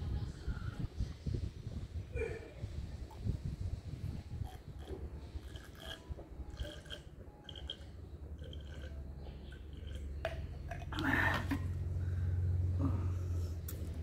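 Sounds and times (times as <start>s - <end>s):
low rumble: 0.0s - 6.6s, 8.0s - 14.0s.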